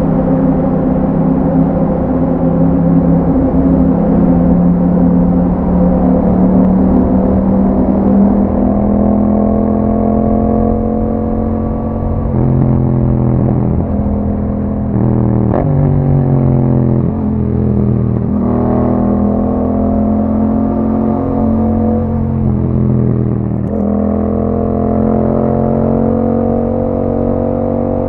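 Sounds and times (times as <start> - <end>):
motorcycle engine while riding: 0.0 - 28.0.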